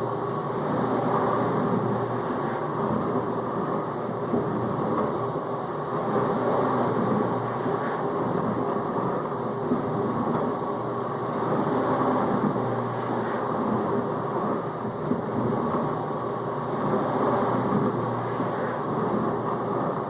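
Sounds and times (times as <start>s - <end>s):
dishwasher pump motor humming: 0.0s - 20.0s.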